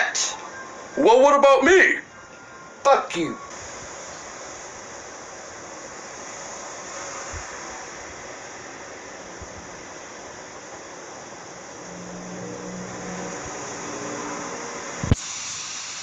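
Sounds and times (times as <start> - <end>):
faint steady tones: 0.0 - 16.0
steady hiss-like noise: 0.0 - 16.0.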